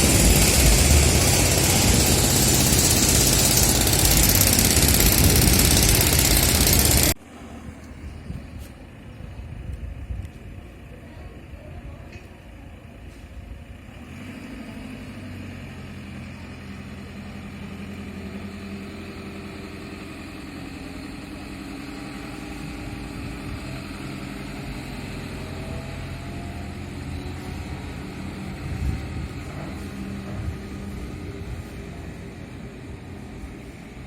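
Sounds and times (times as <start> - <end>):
heavy machinery diesel engine: 0.0 - 34.0.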